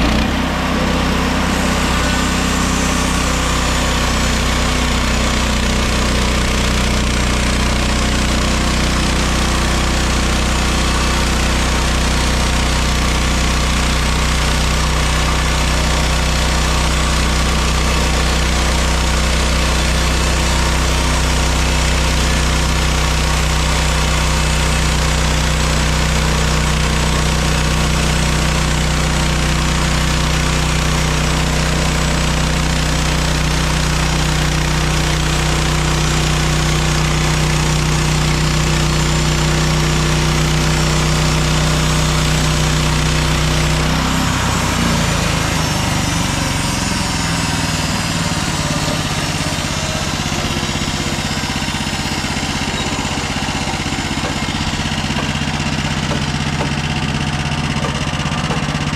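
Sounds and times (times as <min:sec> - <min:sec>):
bandsaw mill sawing log: 0:00.0 - 0:58.9.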